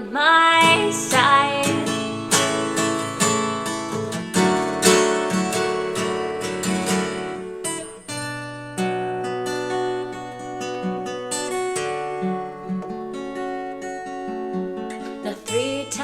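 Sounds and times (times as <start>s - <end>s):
acoustic guitar strumming: 0.1s - 16.0s.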